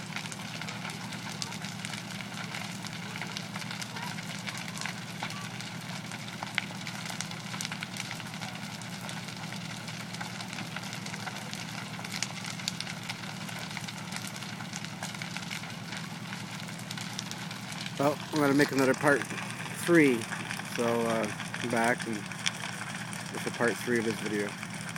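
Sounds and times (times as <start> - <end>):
low rumble: 0.0 - 23.6
burning house crackling and popping: 0.0 - 24.9.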